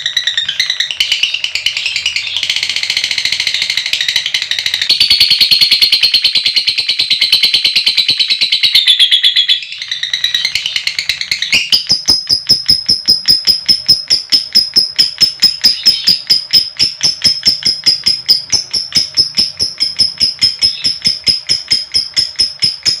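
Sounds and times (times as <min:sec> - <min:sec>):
lovebird chattering call: 0:00.0 - 0:23.0.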